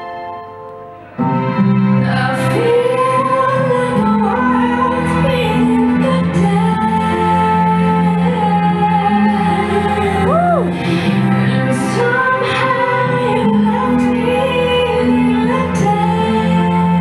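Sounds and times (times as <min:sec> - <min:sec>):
woman singing: 0:02.0 - 0:17.0.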